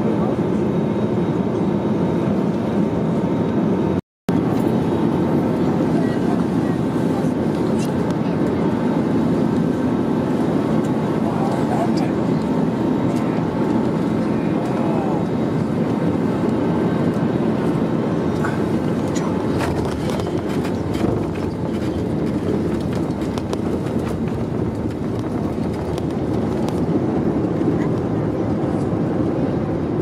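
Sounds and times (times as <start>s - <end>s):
aircraft rumble on runway: 0.0s - 30.0s.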